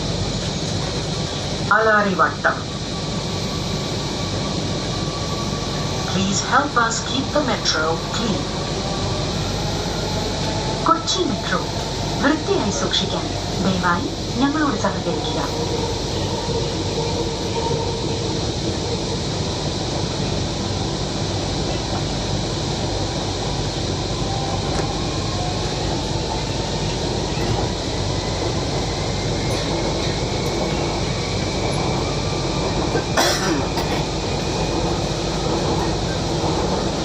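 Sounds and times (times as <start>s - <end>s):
train running rumble: 0.0s - 37.0s.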